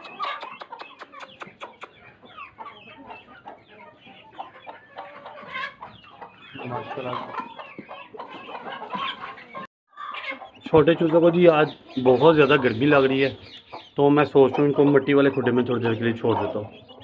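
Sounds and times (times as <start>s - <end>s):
chickens clucking and chicks peeping: 0.0s - 17.0s.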